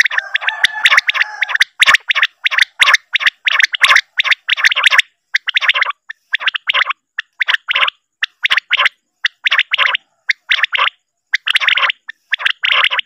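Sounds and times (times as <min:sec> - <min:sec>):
quail calls: 0:00.0 - 0:13.0.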